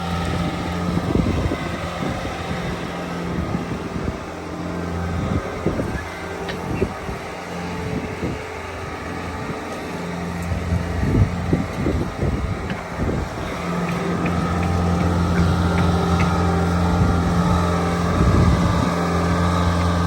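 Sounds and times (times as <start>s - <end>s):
diesel engine running: 0.0s - 20.0s
wind buffeting microphone: 0.0s - 20.0s.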